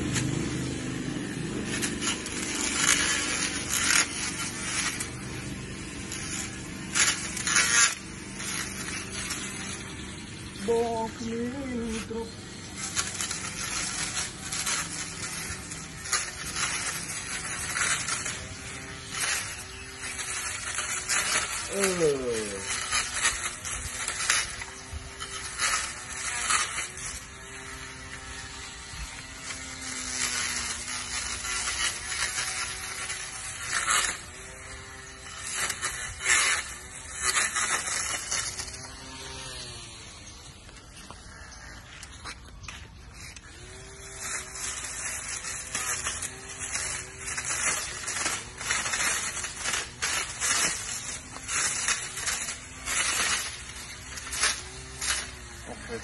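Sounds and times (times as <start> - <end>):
hedge trimmer cutting leaves: 0.0 - 56.0.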